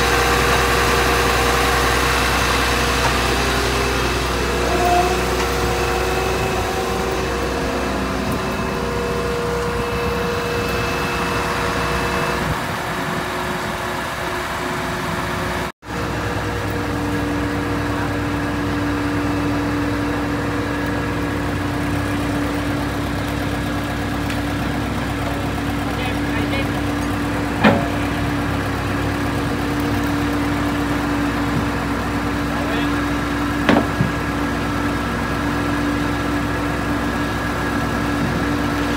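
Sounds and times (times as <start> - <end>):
diesel truck engine running: 0.0 - 38.9
whining tones: 0.0 - 38.9.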